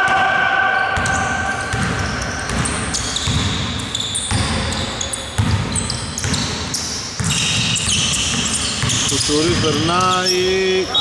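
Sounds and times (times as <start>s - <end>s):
basketball bouncing on wood floor: 1.0s - 10.0s.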